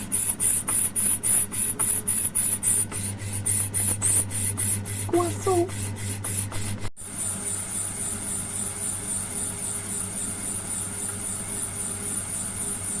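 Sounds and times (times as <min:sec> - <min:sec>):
lathe motor hum with whine: 0:00.0 - 0:13.0.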